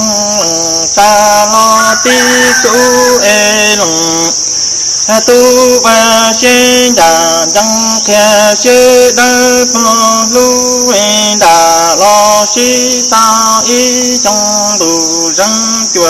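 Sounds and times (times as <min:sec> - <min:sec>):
man chanting sung poetry: 0:00.0 - 0:16.0.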